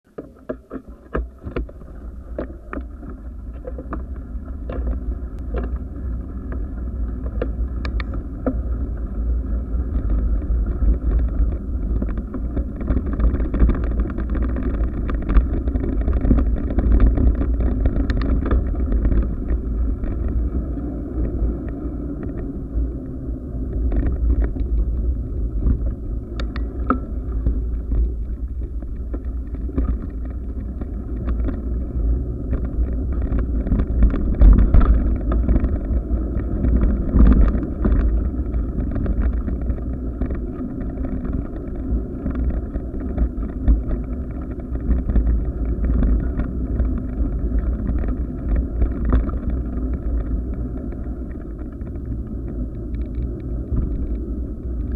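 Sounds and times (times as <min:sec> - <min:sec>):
wind buffeting microphone: 0:00.9 - 0:54.9.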